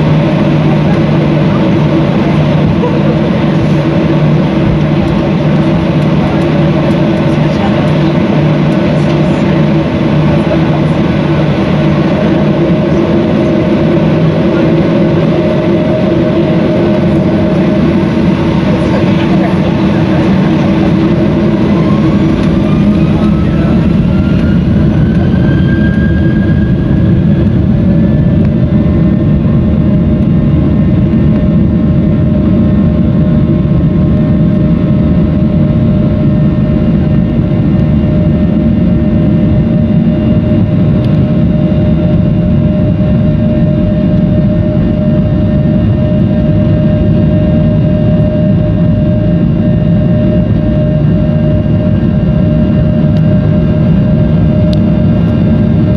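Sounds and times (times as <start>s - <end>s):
jet engine roar: 0.0s - 55.9s
jet engine whine: 0.0s - 55.9s.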